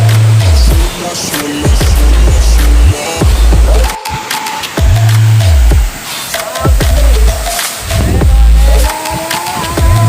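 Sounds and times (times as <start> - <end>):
heavy sliding bass notes: 0.0 - 10.0.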